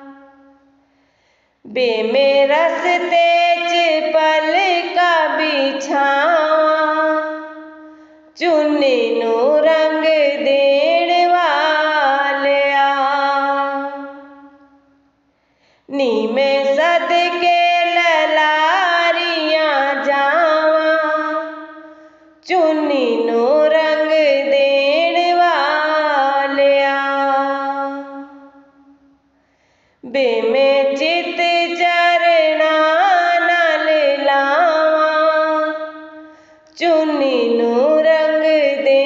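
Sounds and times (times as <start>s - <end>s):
woman singing devotional song: 0.0s - 39.0s.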